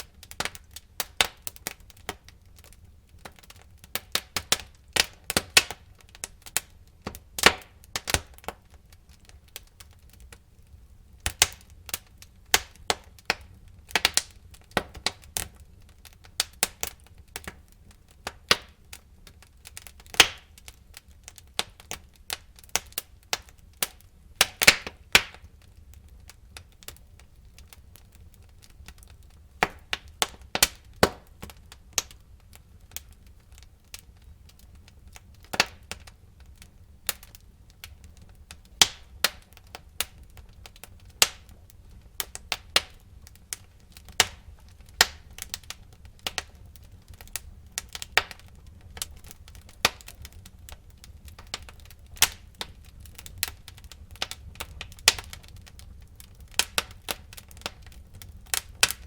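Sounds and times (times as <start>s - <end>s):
firewood crackling and popping: 0.0s - 59.0s
low rumble of fire: 0.0s - 59.0s.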